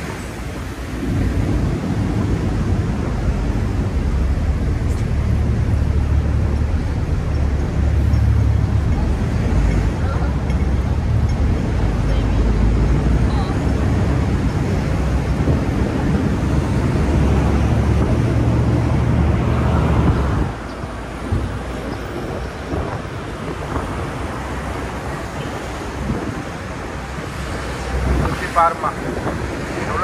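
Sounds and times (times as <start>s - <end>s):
boat engine droning: 0.0s - 30.0s
water rushing: 0.0s - 30.0s
wind buffeting microphone: 0.0s - 30.0s.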